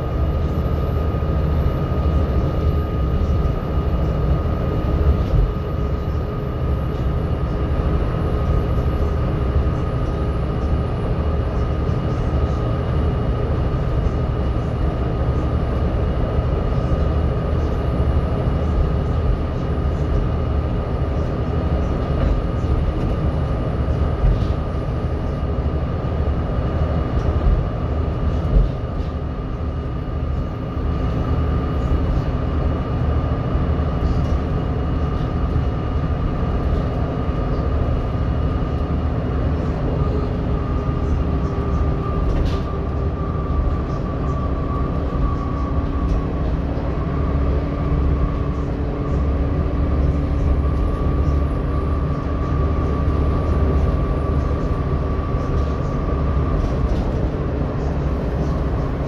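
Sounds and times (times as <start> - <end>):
bus diesel engine rumble: 0.0 - 59.0
cooling fan whine: 0.0 - 59.0.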